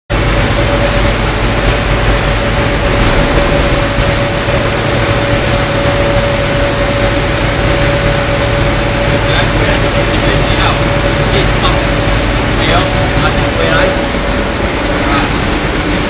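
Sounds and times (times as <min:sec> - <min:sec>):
constant machine whine: 0:00.1 - 0:16.0
rotary drum dryer rumbling: 0:00.1 - 0:16.0.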